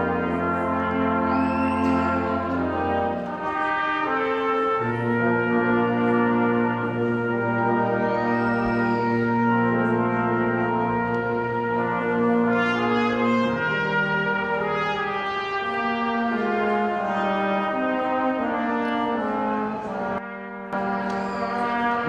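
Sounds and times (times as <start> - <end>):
slow instrumental music: 0.0 - 22.0.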